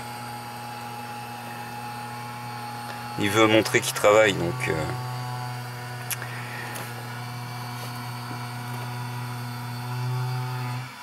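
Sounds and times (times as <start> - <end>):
motorised machine humming: 0.0 - 11.0.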